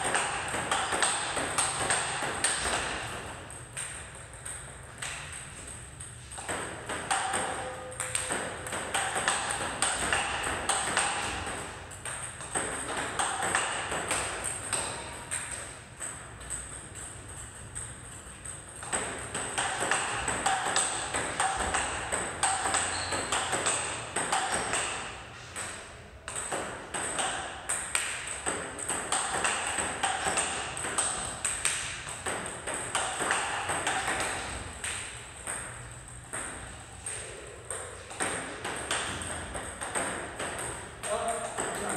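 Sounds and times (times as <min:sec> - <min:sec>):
table tennis ball hits: 0:00.0 - 0:41.9.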